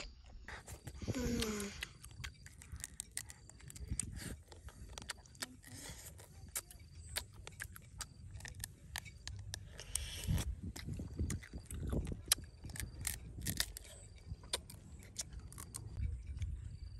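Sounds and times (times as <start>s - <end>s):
crab shell crunching in teeth: 1.3s - 16.6s.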